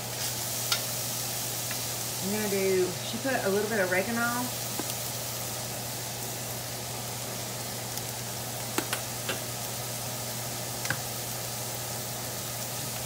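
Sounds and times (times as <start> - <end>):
sausage sizzling in a skillet: 0.0 - 13.0.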